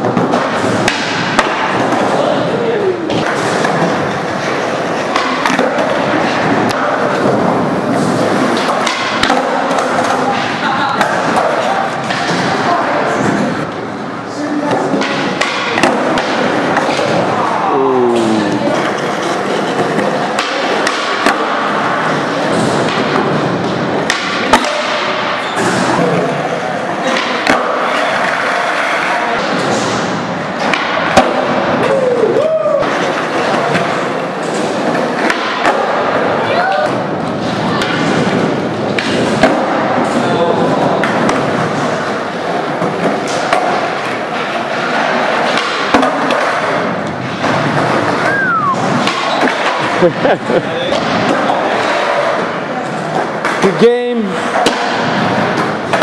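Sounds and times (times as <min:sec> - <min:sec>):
skateboard rolling on concrete: 0:00.0 - 0:13.8, 0:15.8 - 0:20.8, 0:25.6 - 0:53.7.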